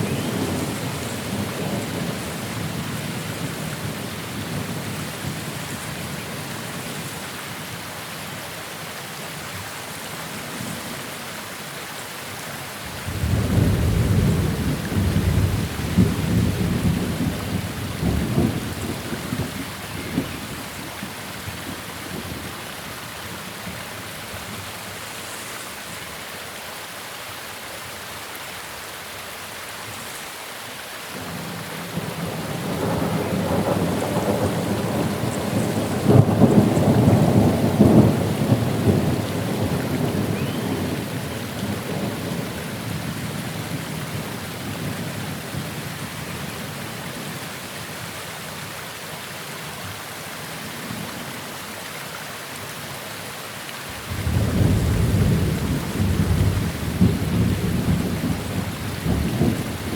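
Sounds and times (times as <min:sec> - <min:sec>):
rain hissing: 0:00.0 - 0:08.4, 0:11.9 - 0:26.4, 0:29.8 - 0:59.9.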